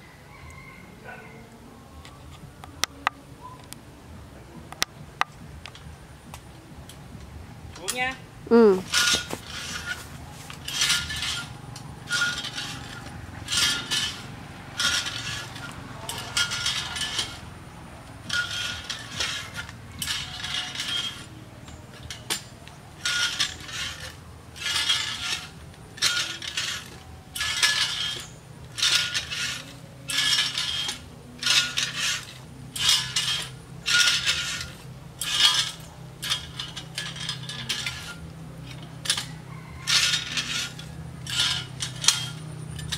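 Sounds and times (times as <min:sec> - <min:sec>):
metal ladder clanking: 0:07.7 - 0:42.9.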